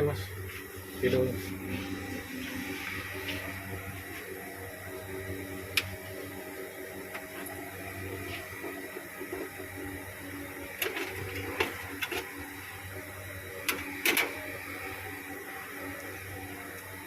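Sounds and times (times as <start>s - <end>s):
machine electrical hum: 0.0s - 17.0s.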